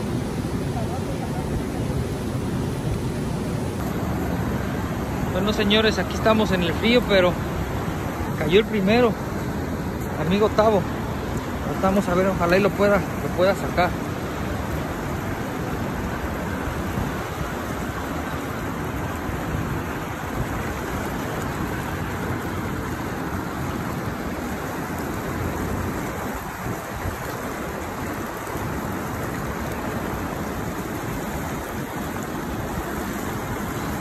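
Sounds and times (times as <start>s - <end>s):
fast river rushing: 0.0s - 34.0s.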